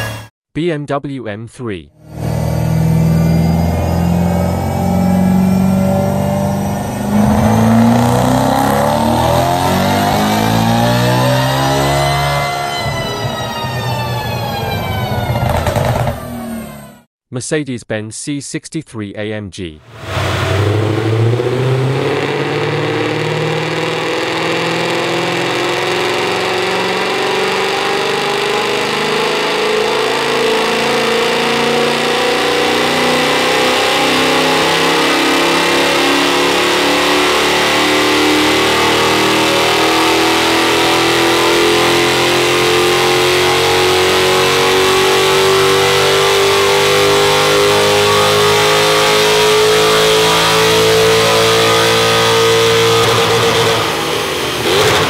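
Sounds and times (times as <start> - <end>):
car engine revving on dyno: 2.0 - 17.0, 19.9 - 55.0.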